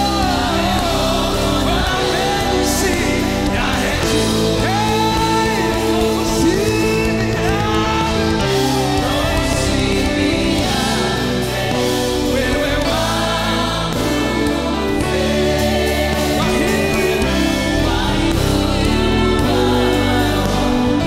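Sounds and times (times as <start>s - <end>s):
live band with keyboard: 0.0s - 21.0s
vocal group singing in harmony: 0.0s - 21.0s.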